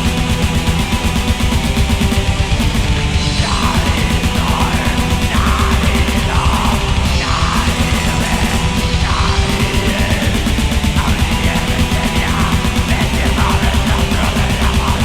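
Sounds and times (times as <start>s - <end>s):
distorted guitars: 0.0s - 15.0s
fast dense drumming: 0.0s - 15.0s
harsh shouted vocal: 2.5s - 15.0s.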